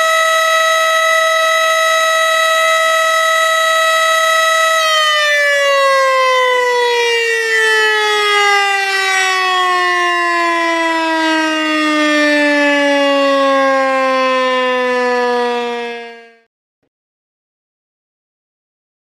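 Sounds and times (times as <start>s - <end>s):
siren winding down: 0.0s - 16.5s.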